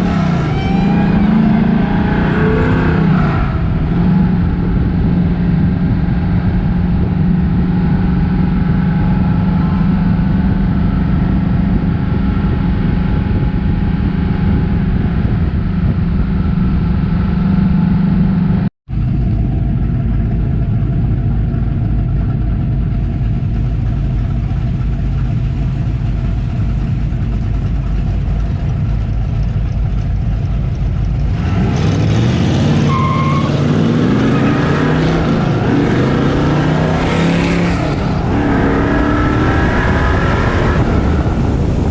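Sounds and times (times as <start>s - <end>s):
car engine droning and revving: 0.0s - 41.9s.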